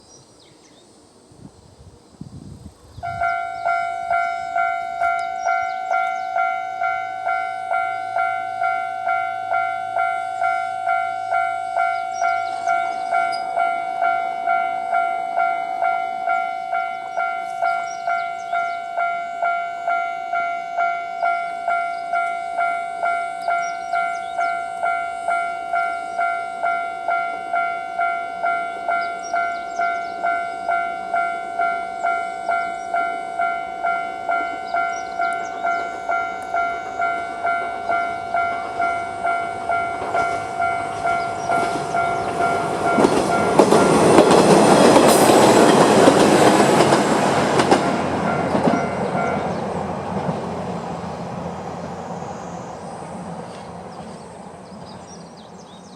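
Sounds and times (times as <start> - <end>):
level-crossing alarm bell: 3.0 - 50.1.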